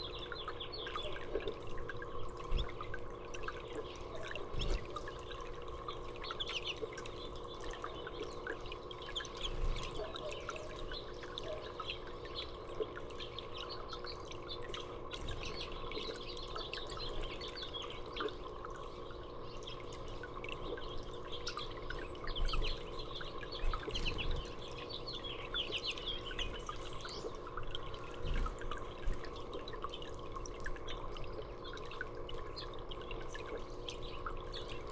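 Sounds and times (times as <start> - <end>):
dripping water: 0.0 - 34.9
songbirds chirping: 0.0 - 34.9
steady low hum: 0.0 - 34.9.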